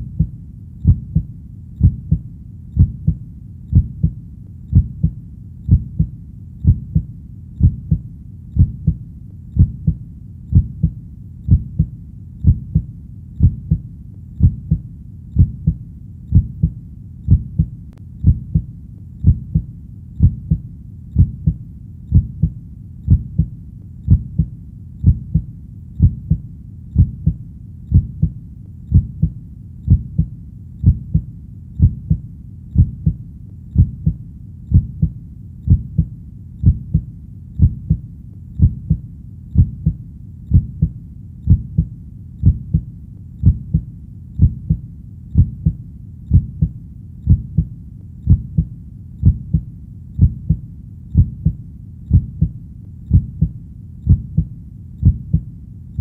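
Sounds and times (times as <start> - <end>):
heartbeat lub-dub: 0.0 - 56.0.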